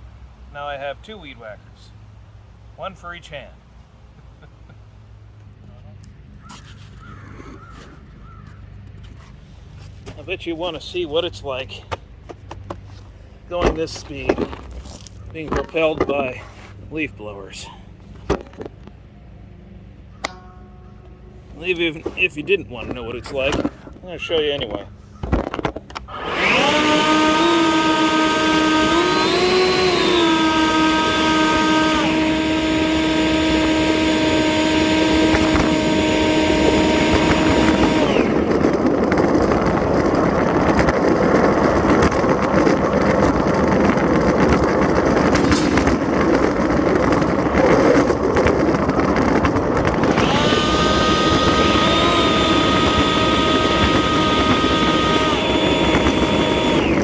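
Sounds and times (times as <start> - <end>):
leaf blowers whining: 5.5 - 57.0.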